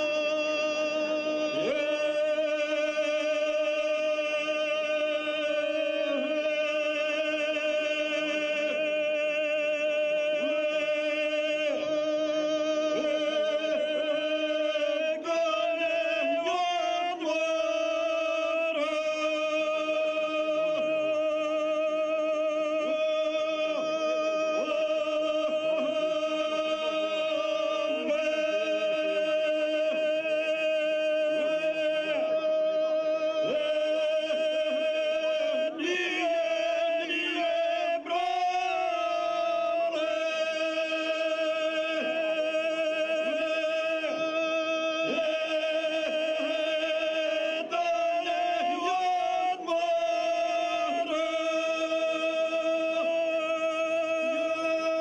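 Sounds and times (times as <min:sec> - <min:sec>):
men singing unaccompanied: 0:00.0 - 0:55.0.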